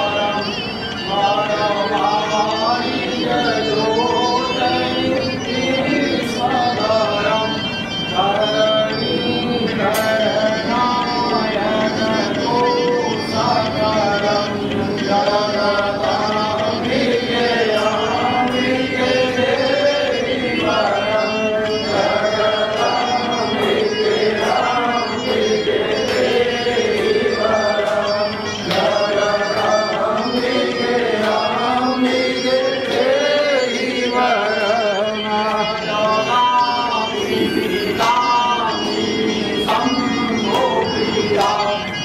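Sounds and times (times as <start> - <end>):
devotional chant-like singing: 0.0 - 42.0.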